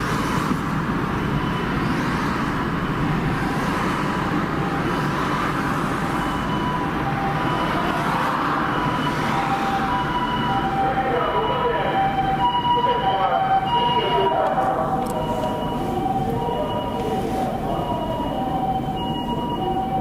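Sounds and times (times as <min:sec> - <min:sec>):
road traffic: 0:00.0 - 0:20.0
ambulance siren wailing: 0:02.7 - 0:20.0.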